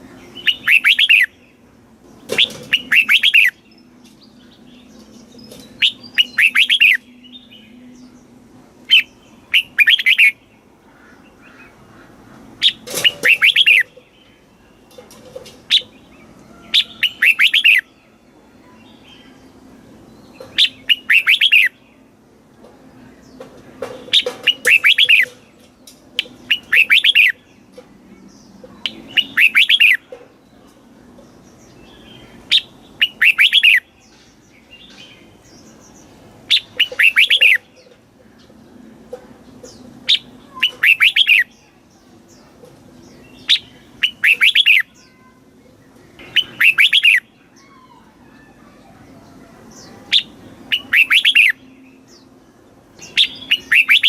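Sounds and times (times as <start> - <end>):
bird singing warbled phrases: 0.0 - 54.0.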